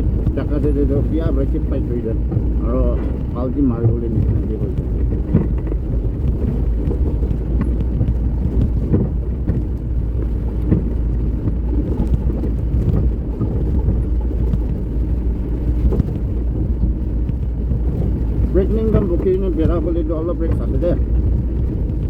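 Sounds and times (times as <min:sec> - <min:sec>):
knocks and rattles over bumps: 0:00.0 - 0:22.0
vehicle rumbling on rough road: 0:00.0 - 0:22.0.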